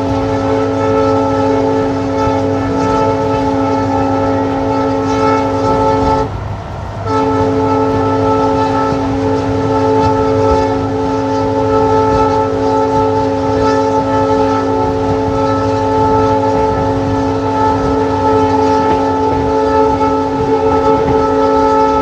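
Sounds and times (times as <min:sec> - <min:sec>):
locomotive air horn: 0:00.0 - 0:22.0
train rumbling: 0:00.0 - 0:22.0.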